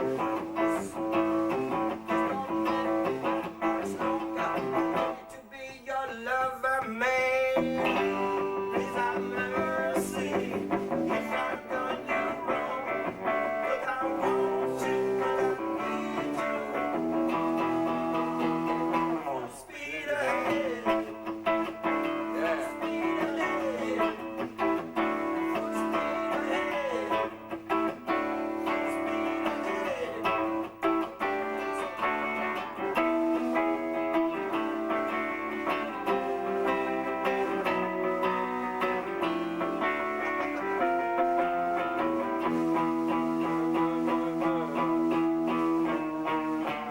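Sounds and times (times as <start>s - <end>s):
blues-rock electric guitar lead: 0.0s - 5.4s, 6.8s - 46.9s.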